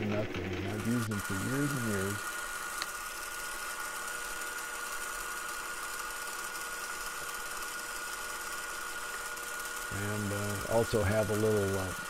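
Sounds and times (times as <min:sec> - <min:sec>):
metal lathe whining: 0:00.0 - 0:12.0.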